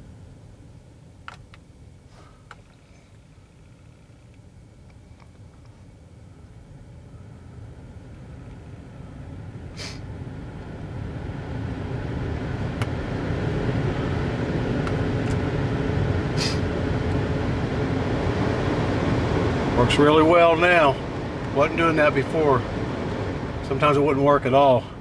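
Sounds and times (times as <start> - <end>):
blower fan rushing air: 0.0 - 25.0
faint motor whine: 0.0 - 25.0.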